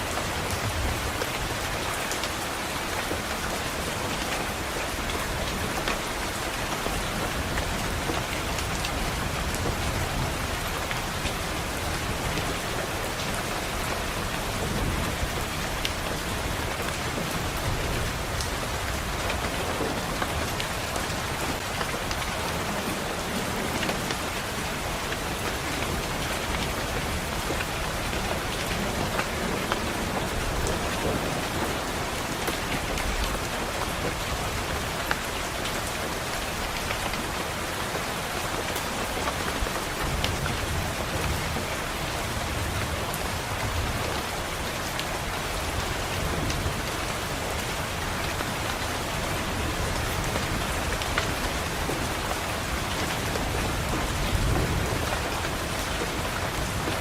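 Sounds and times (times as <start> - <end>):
rain against a window: 0.0 - 57.0.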